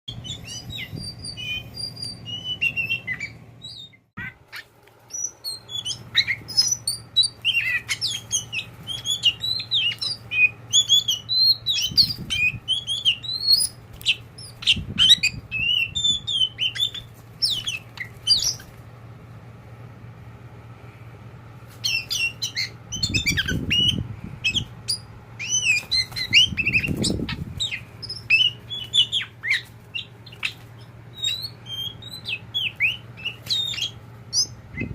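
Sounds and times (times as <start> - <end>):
bird singing chirps and whistles: 0.1 - 18.7, 21.8 - 34.9
steady low hum: 0.1 - 34.9.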